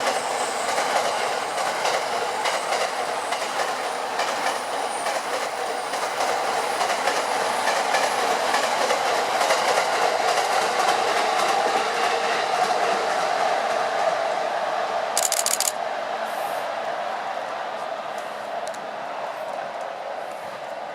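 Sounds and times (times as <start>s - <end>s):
train running noise: 0.0s - 20.9s.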